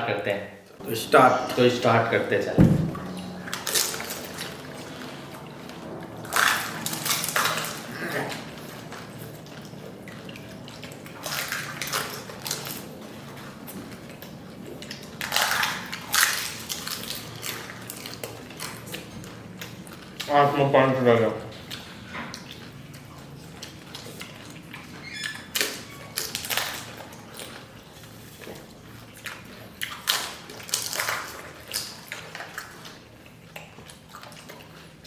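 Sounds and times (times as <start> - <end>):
water slurping and sloshing: 2.8 - 20.5, 21.2 - 35.0.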